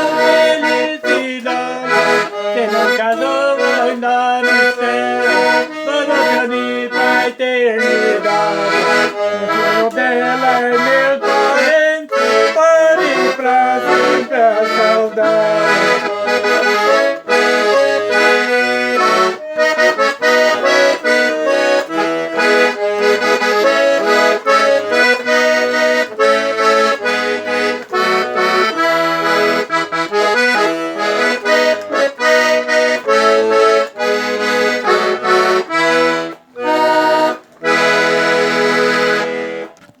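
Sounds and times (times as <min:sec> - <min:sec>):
accordion playing: 0:00.0 - 0:40.0.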